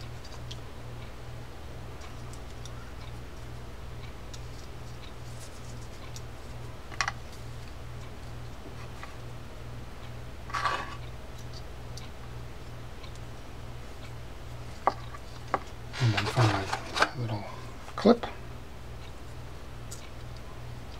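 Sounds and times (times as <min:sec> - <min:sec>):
low pulsing hum: 0:00.0 - 0:20.9.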